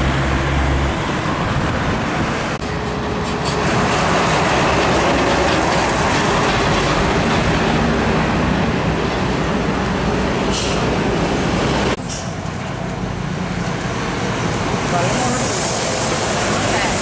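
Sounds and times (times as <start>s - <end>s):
diesel truck engines: 0.0s - 17.0s
tyres on the road: 0.0s - 17.0s.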